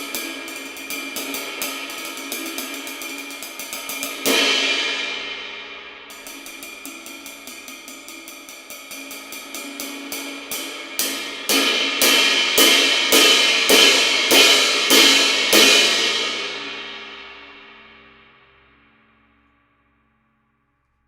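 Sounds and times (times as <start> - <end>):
cymbal ringing: 0.0 - 17.7.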